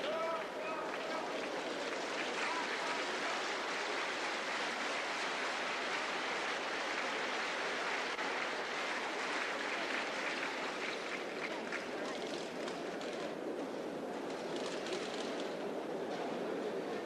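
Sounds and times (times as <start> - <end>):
arena crowd noise: 0.0 - 17.0.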